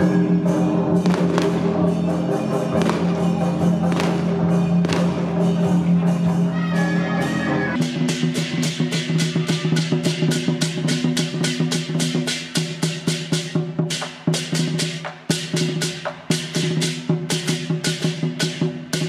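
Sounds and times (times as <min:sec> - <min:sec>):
fast drum and cymbal strikes: 0:00.0 - 0:19.0.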